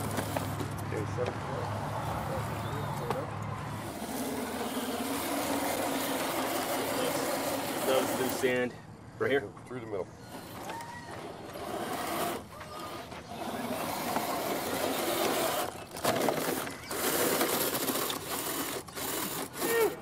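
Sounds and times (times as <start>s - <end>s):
tires scrabbling in dirt: 0.0s - 8.7s, 10.1s - 20.0s
electric motor whirring: 1.8s - 8.6s, 10.2s - 20.0s.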